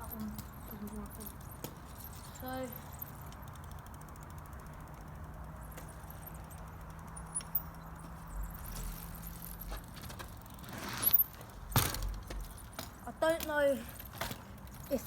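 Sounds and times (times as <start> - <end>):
mountain bike rattling and clicking: 0.0 - 15.0.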